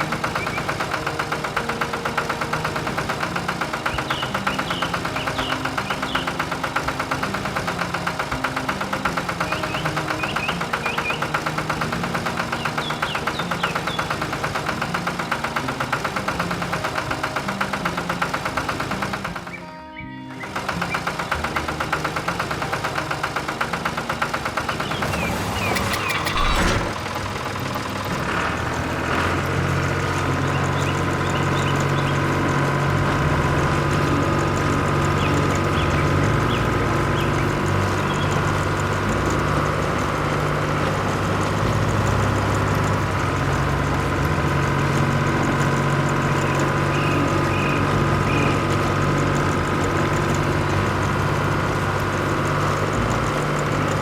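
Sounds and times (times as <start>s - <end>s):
cartoon engine chugging: 0.0s - 19.6s, 20.5s - 54.0s.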